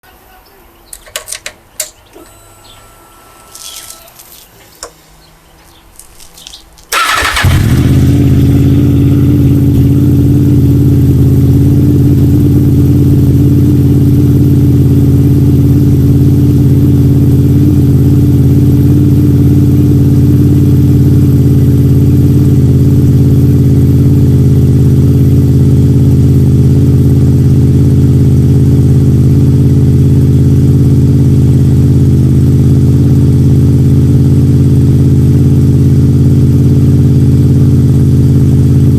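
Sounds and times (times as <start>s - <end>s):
motorcycle engine starting and idling: 0.9s - 38.9s.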